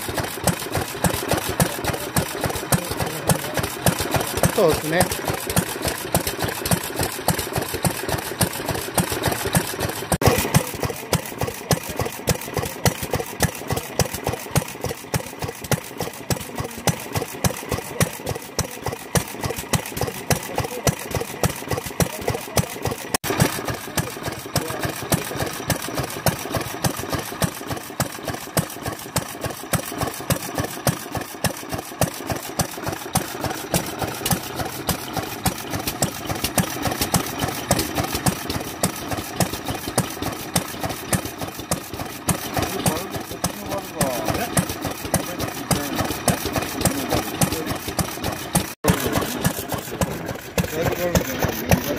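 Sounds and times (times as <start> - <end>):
stationary engine running: 0.0 - 51.9.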